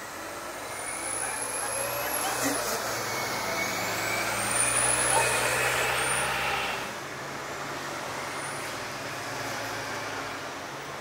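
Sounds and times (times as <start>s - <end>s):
city background noise: 0.0s - 11.0s.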